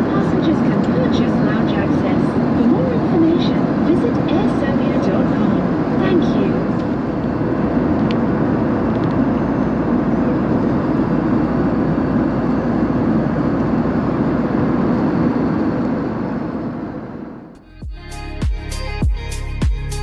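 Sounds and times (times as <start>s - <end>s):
airflow over fuselage: 0.0s - 17.5s
jet engines rumbling: 0.0s - 17.6s.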